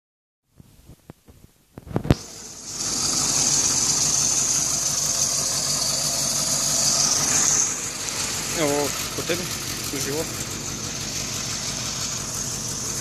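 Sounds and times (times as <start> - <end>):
car engine idling: 2.1 - 13.0.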